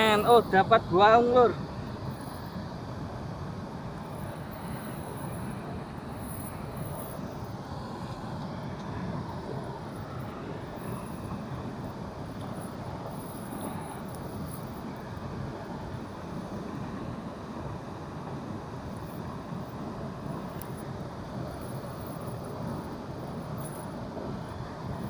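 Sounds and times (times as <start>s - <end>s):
water roaring through sluice gate: 0.0s - 25.0s.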